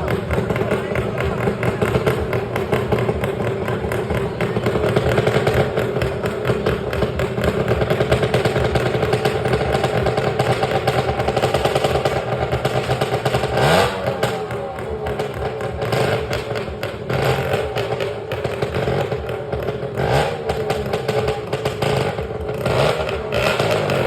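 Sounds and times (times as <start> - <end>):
motorcycle engine running hard: 0.0 - 24.0.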